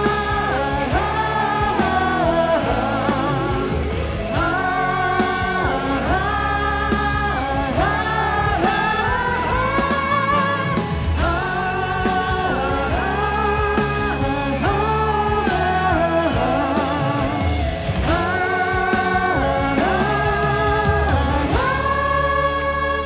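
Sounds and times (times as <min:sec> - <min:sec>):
man and woman singing: 0:00.0 - 0:23.0
rock band with guitar: 0:00.0 - 0:23.0.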